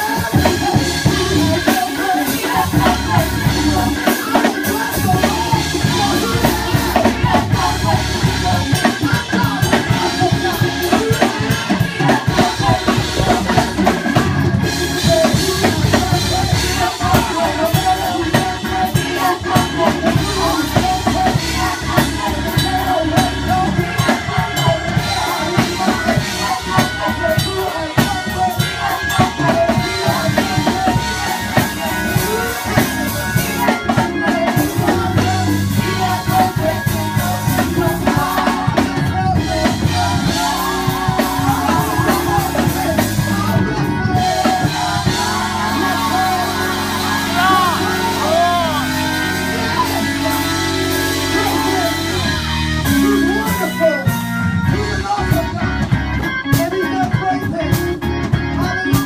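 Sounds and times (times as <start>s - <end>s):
drum kit: 0.0s - 59.0s
gospel band playing: 0.0s - 59.0s
person singing: 0.0s - 59.0s.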